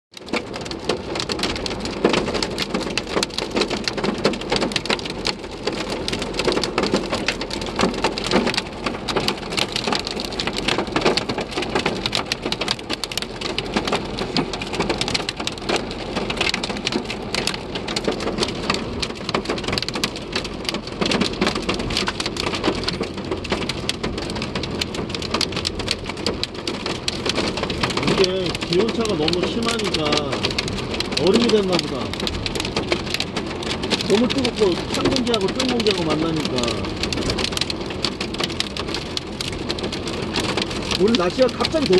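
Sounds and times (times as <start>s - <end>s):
hail and rain on car roof: 0.1s - 41.9s.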